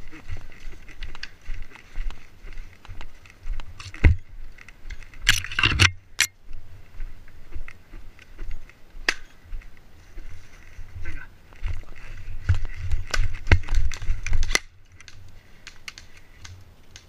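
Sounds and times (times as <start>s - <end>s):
footsteps crunching on stony ground: 0.0s - 16.4s.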